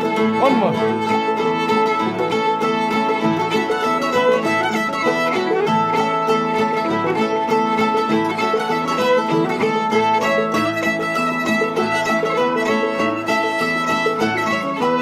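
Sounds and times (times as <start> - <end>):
banjo: 0.0 - 15.0
fiddle melody: 0.0 - 15.0
guitar: 0.0 - 15.0
mandolin: 0.0 - 15.0.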